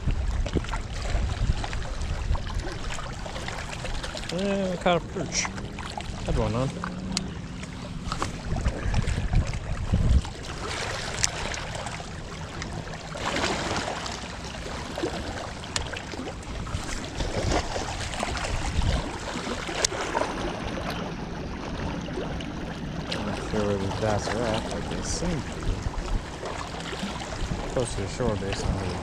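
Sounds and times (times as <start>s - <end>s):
water lapping: 0.0s - 29.0s
wind rumbling on microphone: 0.0s - 29.0s.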